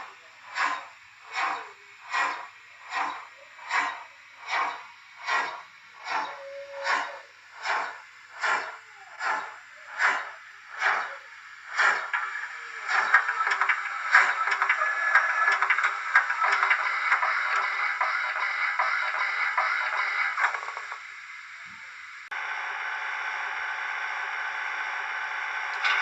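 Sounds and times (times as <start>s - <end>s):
steam hiss: 0.0s - 22.3s
steam locomotive puffs: 0.0s - 22.4s.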